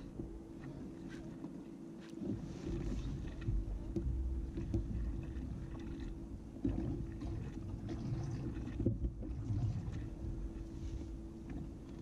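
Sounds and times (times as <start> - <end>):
water and wind rumble: 0.0 - 12.0.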